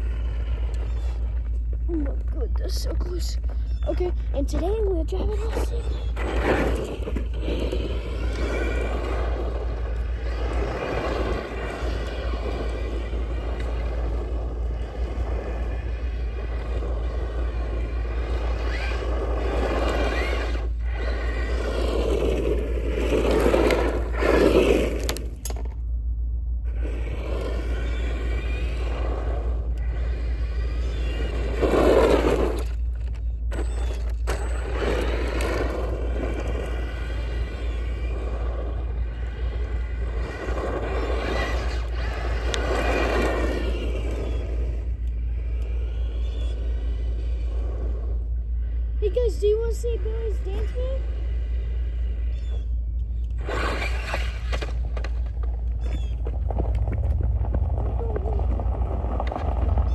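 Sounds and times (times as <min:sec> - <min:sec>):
toy car motor whining: 0:00.0 - 0:01.5, 0:02.1 - 0:25.8, 0:26.7 - 0:56.5
tyres scraping on ground: 0:00.0 - 0:25.8, 0:26.6 - 0:59.9.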